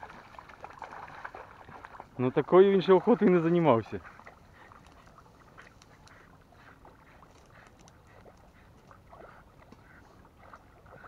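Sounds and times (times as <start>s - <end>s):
dog wading through water: 0.0s - 11.0s.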